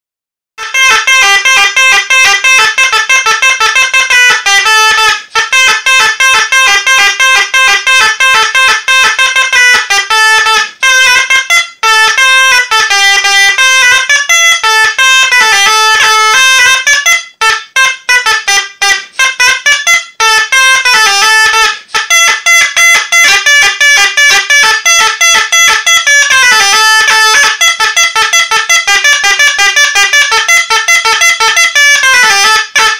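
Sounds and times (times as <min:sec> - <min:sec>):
shawm playing a buzzy melody: 0:00.6 - 0:32.9.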